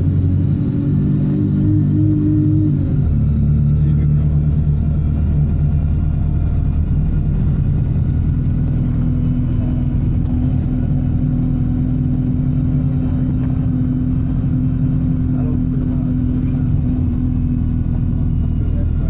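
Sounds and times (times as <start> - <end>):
bus engine running: 0.0 - 19.0
turbocharger whine: 0.0 - 19.0.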